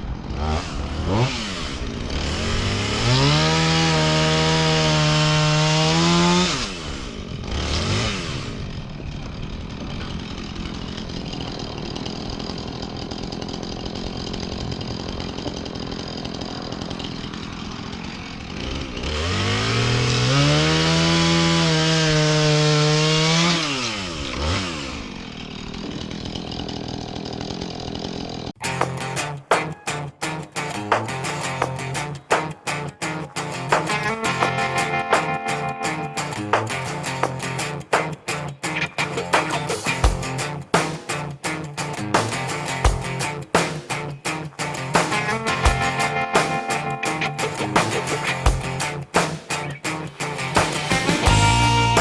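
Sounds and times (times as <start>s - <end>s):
chainsaw revving and idling: 0.0s - 52.0s.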